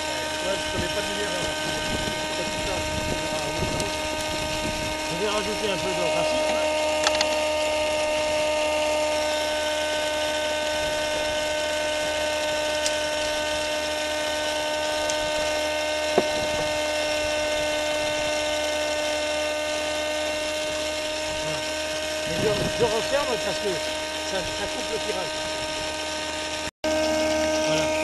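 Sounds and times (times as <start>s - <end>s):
vacuum cleaner motor whine: 0.0s - 28.0s.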